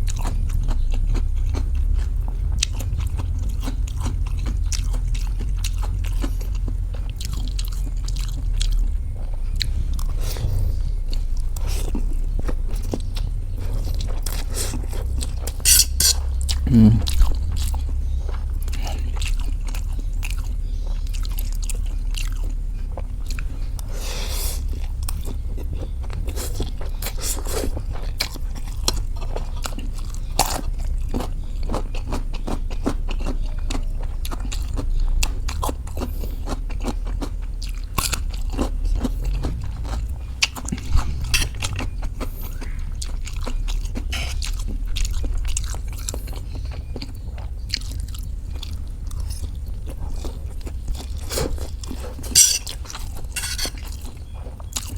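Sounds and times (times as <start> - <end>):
person chewing noodles: 0.0 - 54.9
steady low hum: 0.0 - 54.9.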